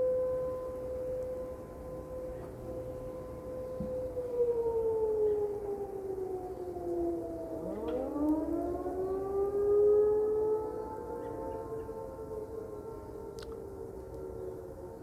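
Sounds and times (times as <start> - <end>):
tornado warning sirens: 0.0 - 15.0.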